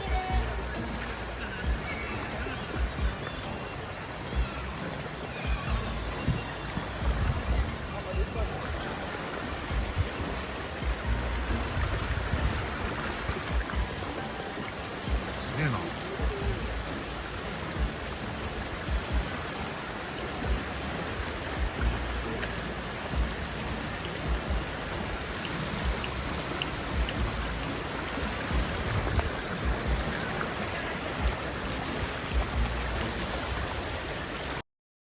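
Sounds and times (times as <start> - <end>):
steady hiss: 0.0 - 34.6
wind buffeting microphone: 5.5 - 34.6.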